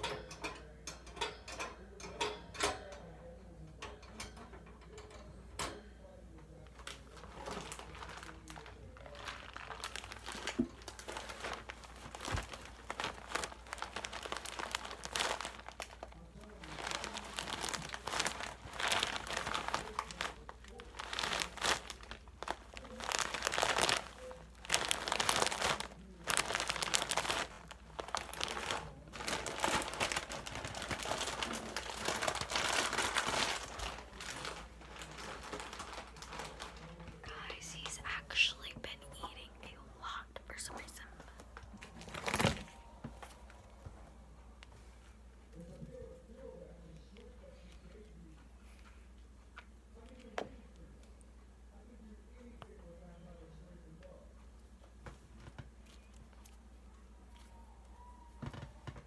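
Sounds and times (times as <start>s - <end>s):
hands crinkling and rustling: 6.5s - 59.0s.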